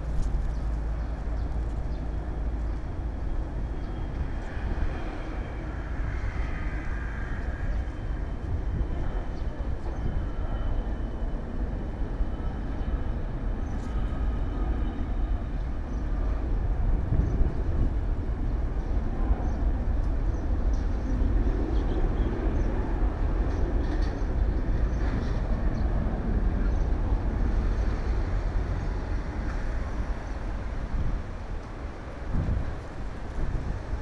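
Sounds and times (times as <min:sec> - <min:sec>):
jet engine whine: 0:00.0 - 0:34.0.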